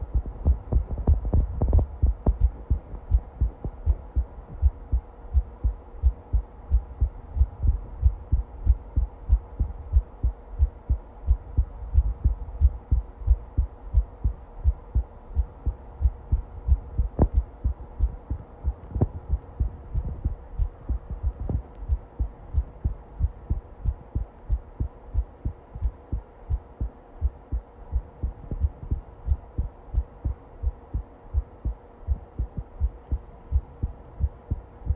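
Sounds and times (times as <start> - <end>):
faint steady hum: 0.0 - 34.9
heartbeat thumps: 0.0 - 34.9.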